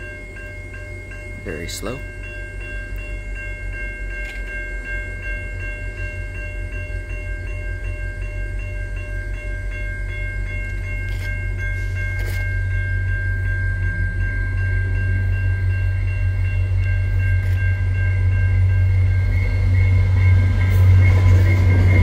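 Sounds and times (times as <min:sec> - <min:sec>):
level crossing bell ringing: 0:00.0 - 0:22.0
train rumbling: 0:00.0 - 0:22.0.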